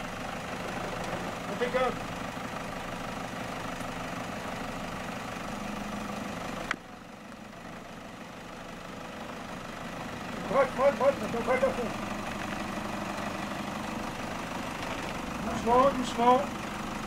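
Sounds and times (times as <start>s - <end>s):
pickup engine running at low revs: 0.0s - 17.0s.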